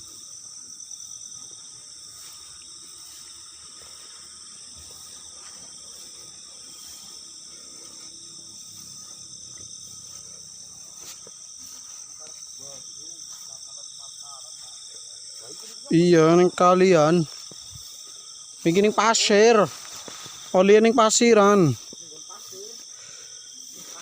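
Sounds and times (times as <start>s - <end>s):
crickets and insects trilling: 0.0s - 24.0s.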